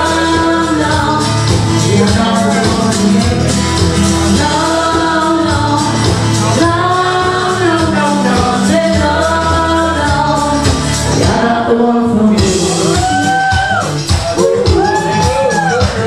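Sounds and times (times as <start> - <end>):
woman singing into a microphone: 0.0 - 13.8
backing track music: 0.0 - 16.0.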